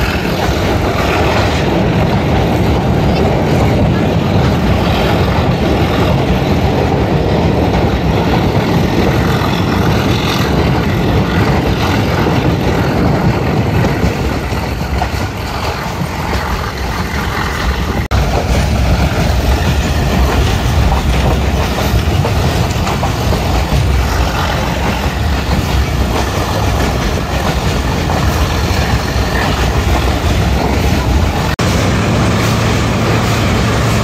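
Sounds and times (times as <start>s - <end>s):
train rumbling on track: 0.0s - 34.0s.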